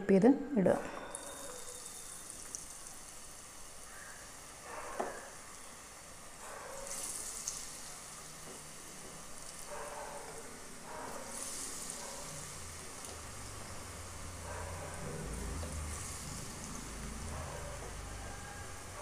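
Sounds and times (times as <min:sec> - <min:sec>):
oil sizzling in deep-frying: 0:01.1 - 0:19.0.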